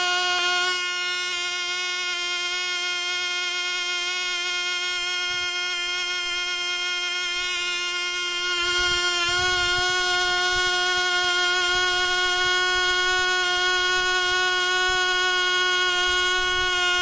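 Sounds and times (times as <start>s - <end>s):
model engine high-pitched buzz: 0.0s - 17.0s.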